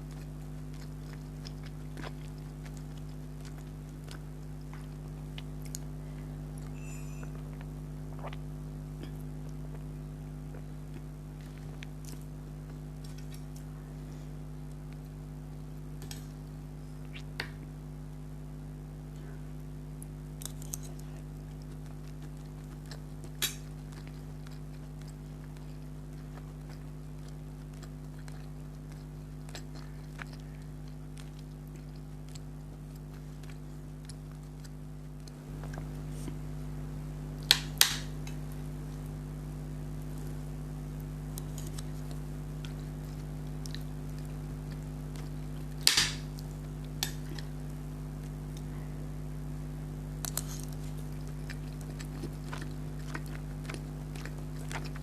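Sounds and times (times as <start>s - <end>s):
person chewing: 0.0s - 17.6s, 20.0s - 36.5s, 41.0s - 48.9s, 50.1s - 55.0s
steady electrical hum: 0.0s - 55.0s.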